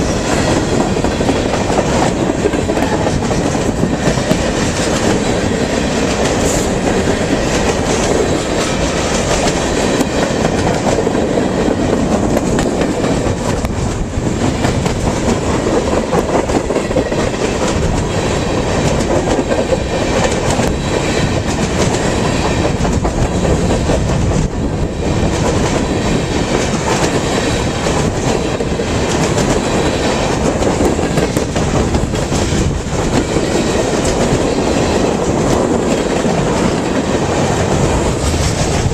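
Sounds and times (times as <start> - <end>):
freight train rolling past: 0.0 - 38.9
wheels clacking over rail joints: 0.0 - 38.9.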